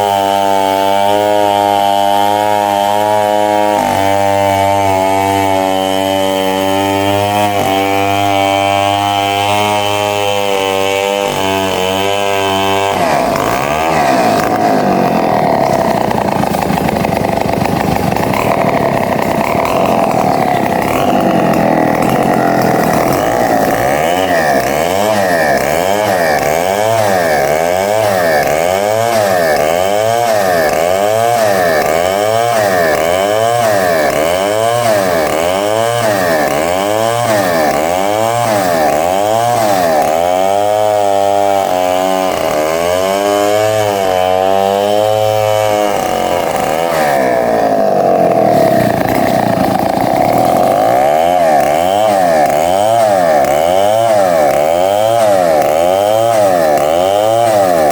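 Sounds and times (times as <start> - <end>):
bandsaw running: 0.0 - 57.9.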